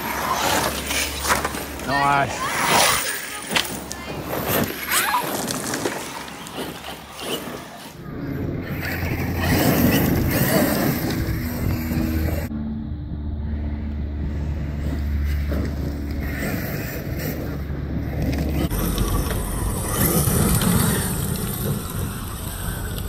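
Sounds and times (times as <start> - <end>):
toy truck motor and tyres on dirt: 0.0 - 12.6, 13.9 - 23.0.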